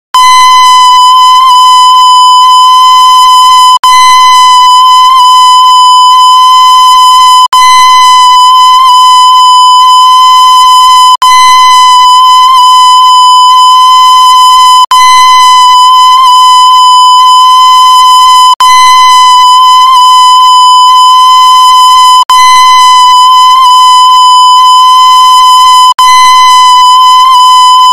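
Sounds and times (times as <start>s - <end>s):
loud steady tone: 0.2s - 27.9s.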